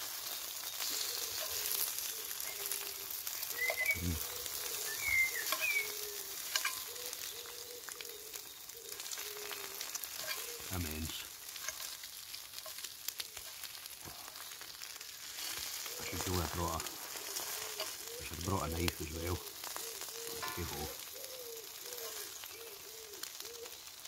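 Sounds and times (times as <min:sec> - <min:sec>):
food sizzling in skillet: 0:00.0 - 0:24.0.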